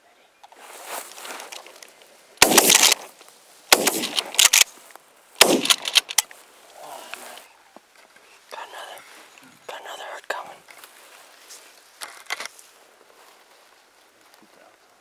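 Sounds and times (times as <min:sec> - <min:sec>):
dry grass crackling underfoot: 0:00.5 - 0:09.4, 0:10.0 - 0:15.0.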